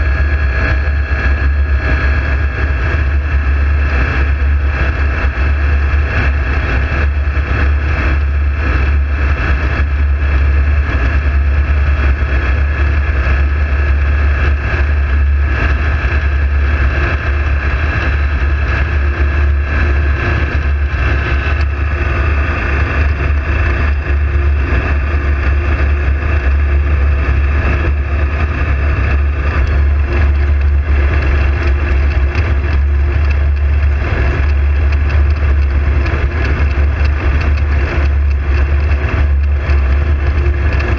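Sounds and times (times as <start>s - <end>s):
aircraft engine drone: 0.0s - 40.9s
wind rushing over microphone: 0.0s - 40.9s.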